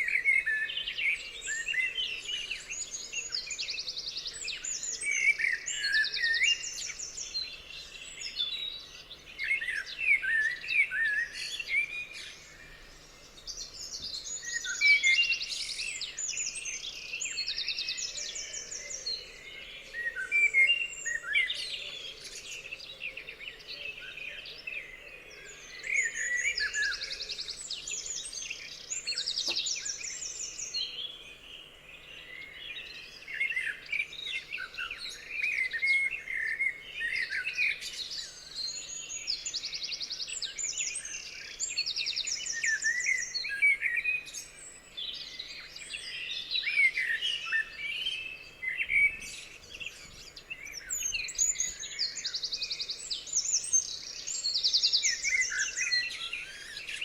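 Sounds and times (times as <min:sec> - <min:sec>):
songbirds singing and trilling: 0:00.0 - 0:57.0.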